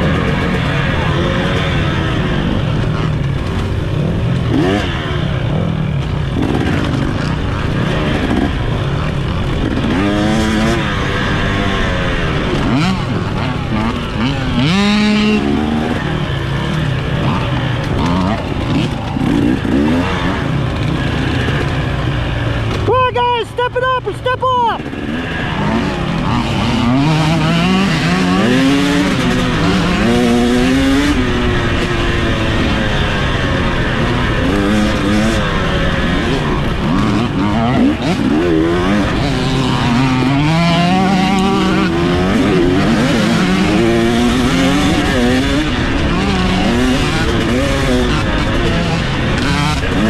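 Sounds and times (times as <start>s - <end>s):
race engine revving: 0.0s - 50.0s
steady rush of noise: 0.0s - 50.0s.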